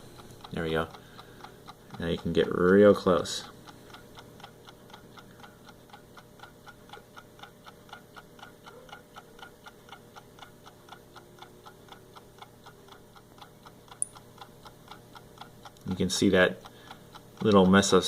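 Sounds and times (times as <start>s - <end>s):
mechanical clock ticking: 0.0s - 18.0s.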